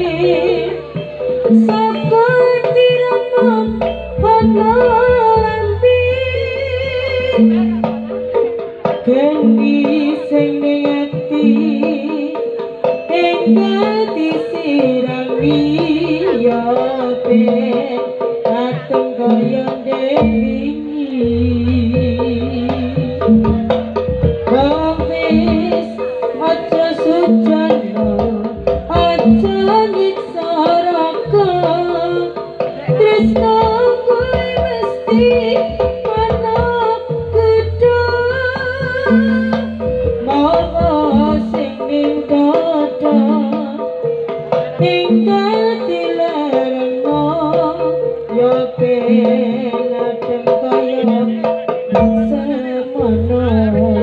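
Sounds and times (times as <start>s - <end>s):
hand drum strokes: 0.0s - 54.0s
wavering sliding melody: 0.0s - 54.0s.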